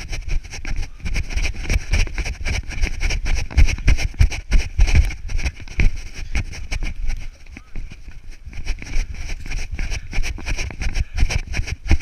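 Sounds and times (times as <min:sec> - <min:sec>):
camera jostling: 0:00.0 - 0:12.0
wind buffeting microphone: 0:00.0 - 0:12.0.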